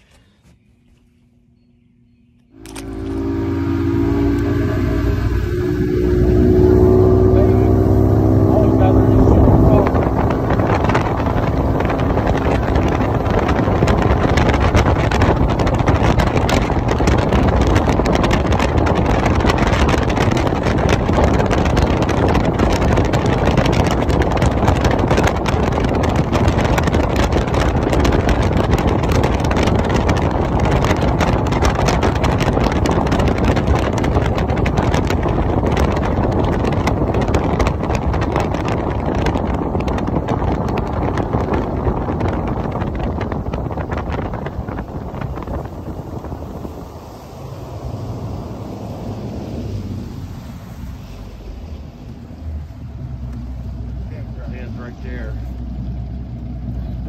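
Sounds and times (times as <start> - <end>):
boat hull on water: 0.0 - 57.0
wind buffeting microphone: 0.8 - 57.0
outboard engine running: 2.4 - 57.0.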